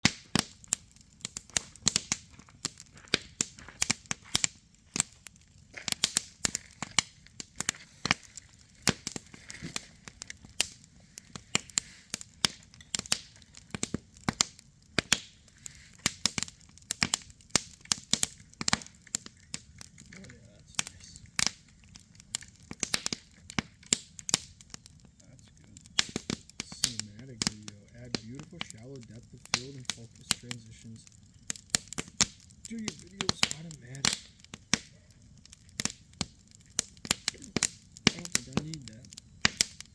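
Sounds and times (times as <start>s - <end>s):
campfire crackling and popping: 0.0s - 39.9s
low hiss of burning: 0.0s - 39.9s.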